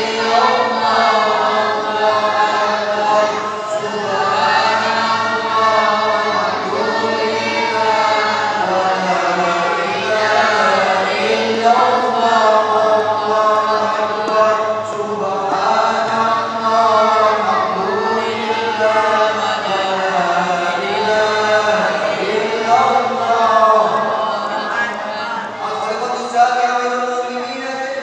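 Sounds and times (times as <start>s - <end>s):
men chanting in unison: 0.0s - 28.0s.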